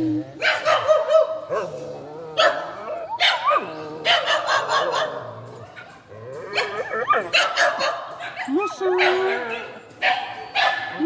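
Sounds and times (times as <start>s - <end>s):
dog barking and yipping: 0.4s - 11.0s.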